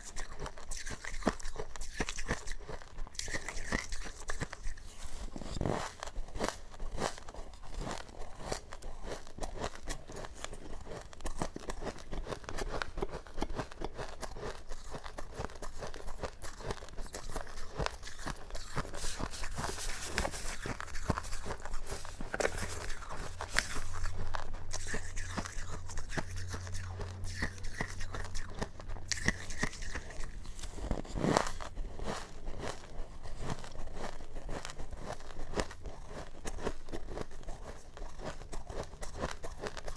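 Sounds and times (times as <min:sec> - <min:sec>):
frost being bitten and chewed: 0:00.0 - 0:39.9.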